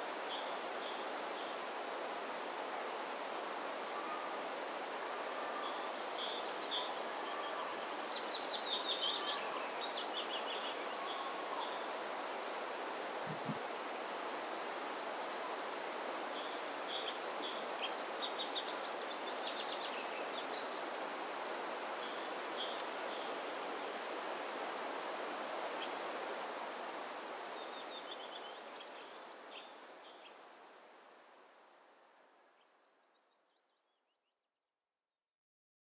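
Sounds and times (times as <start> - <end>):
wind: 0.0 - 34.3.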